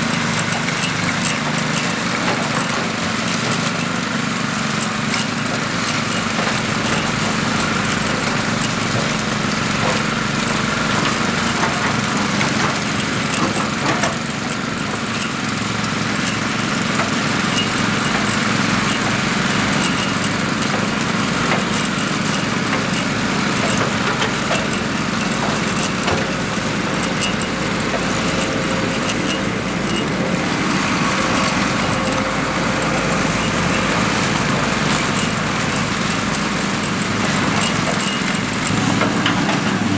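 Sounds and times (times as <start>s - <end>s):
power trowel engine running: 0.0s - 39.9s.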